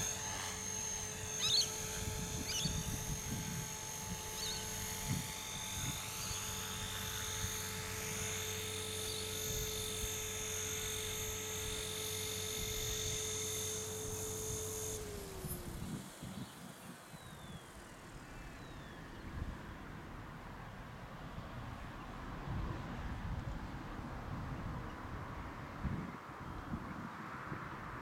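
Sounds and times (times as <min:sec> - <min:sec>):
rc helicopter motor whine: 0:00.0 - 0:27.8.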